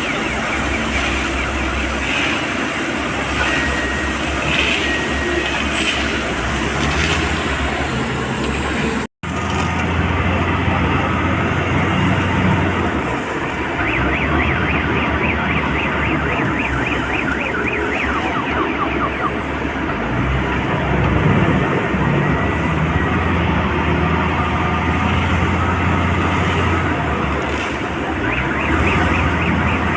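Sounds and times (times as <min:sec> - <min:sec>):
diesel engines of heavy machinery: 0:00.0 - 0:29.9.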